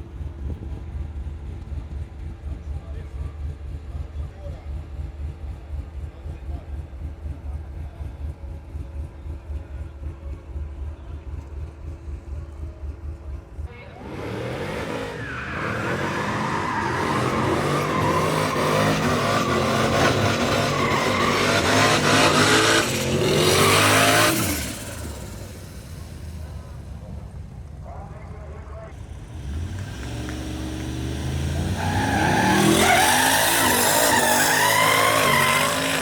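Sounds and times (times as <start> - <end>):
race car engine idling and revving: 0.0 - 36.0.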